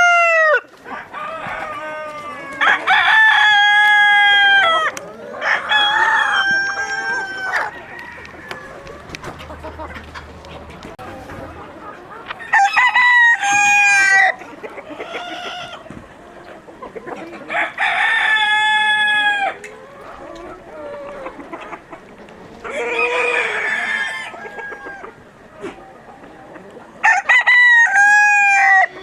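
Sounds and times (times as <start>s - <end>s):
roosters crowing: 0.0s - 16.0s, 17.1s - 26.0s, 27.0s - 29.0s
hens clucking softly: 0.0s - 29.0s.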